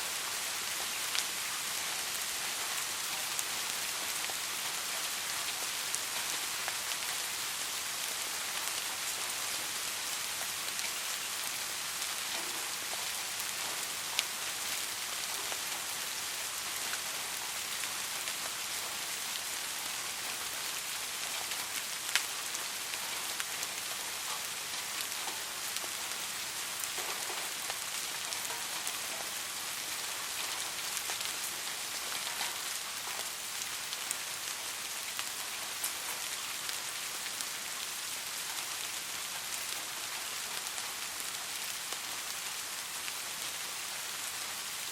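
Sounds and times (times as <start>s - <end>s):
soft rain falling: 0.0s - 44.9s.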